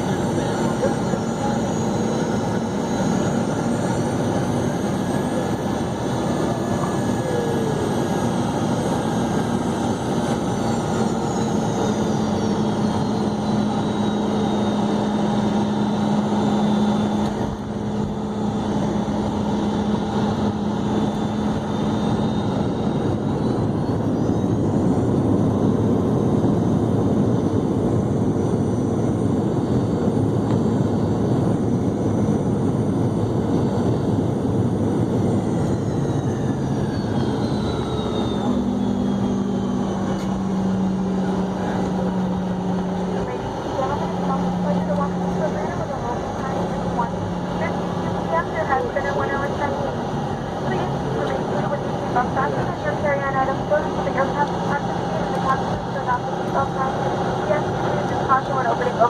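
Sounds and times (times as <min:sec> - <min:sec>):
airliner cabin air rush: 0:00.0 - 0:59.0
high engine whine: 0:00.0 - 0:59.0.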